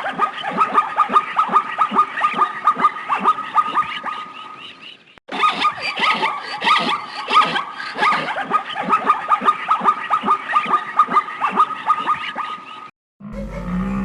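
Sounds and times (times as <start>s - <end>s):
animal yelps: 0.0s - 4.4s, 5.3s - 14.0s.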